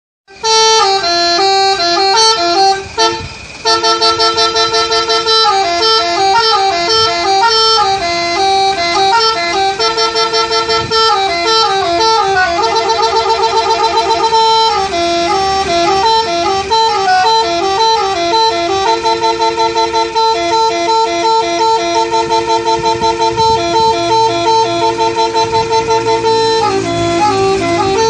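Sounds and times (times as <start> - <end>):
musical air horn melody: 0.3 - 28.0.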